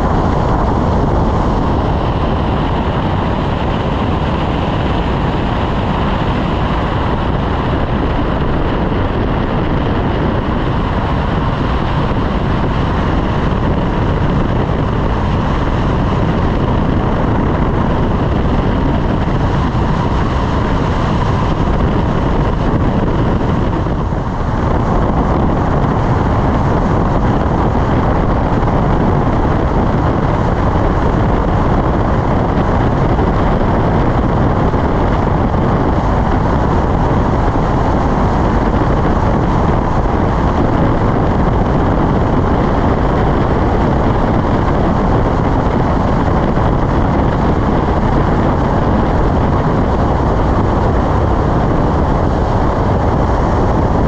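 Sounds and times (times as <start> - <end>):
wind rushing on microphone: 0.0 - 54.0.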